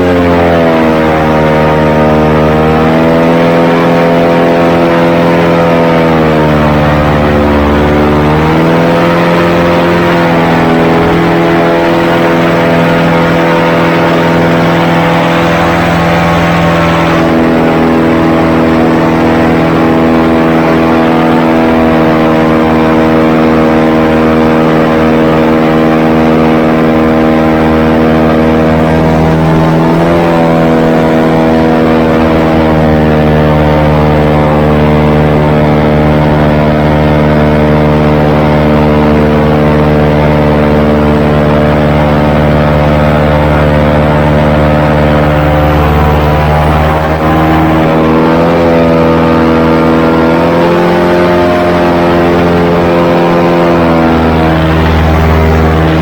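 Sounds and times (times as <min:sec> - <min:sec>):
airboat engine and propeller: 0:00.0 - 0:56.0.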